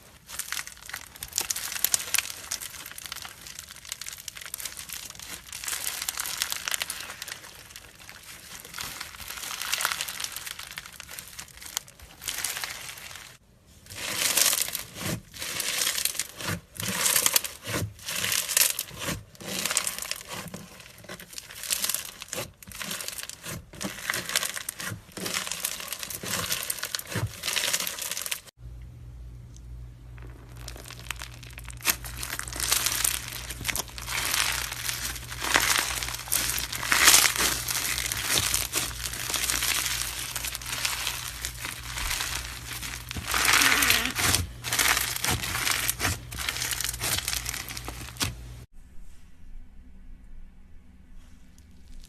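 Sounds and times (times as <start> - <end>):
slime crackling squeezed by hand: 0.0 - 28.5, 30.1 - 48.6.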